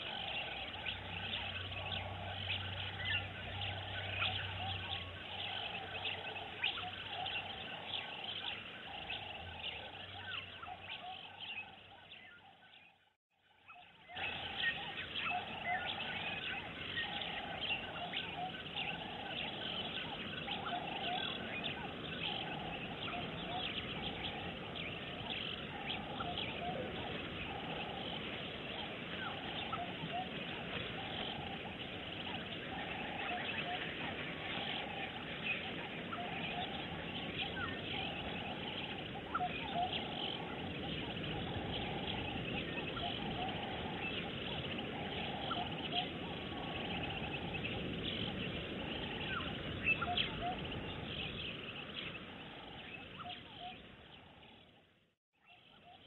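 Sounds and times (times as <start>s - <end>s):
birds chirping and calling: 0.0s - 13.0s, 13.7s - 56.0s.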